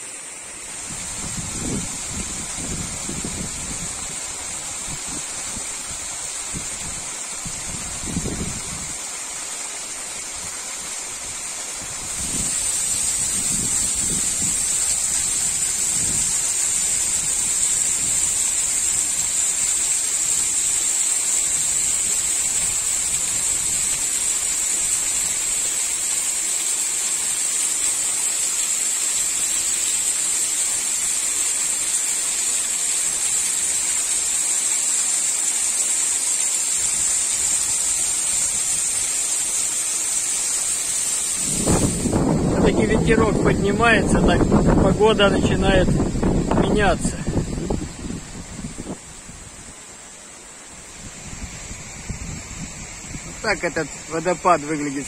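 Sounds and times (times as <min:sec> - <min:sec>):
waterfall splashing onto stones: 0:00.0 - 0:55.0.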